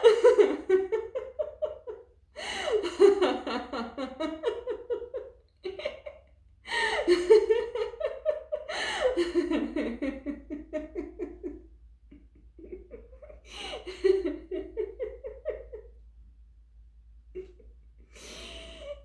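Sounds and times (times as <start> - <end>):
woman laughing rhythmically: 0.0 - 16.0, 17.3 - 19.0.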